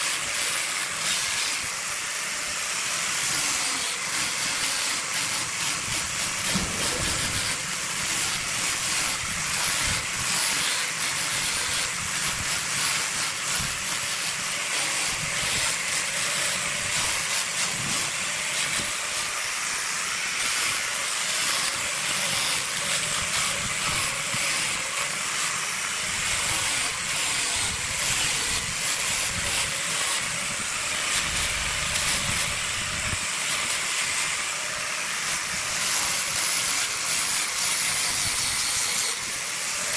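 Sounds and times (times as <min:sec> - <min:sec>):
grinder sanding spinning wood: 0:00.0 - 0:39.9
motors running: 0:00.0 - 0:39.9.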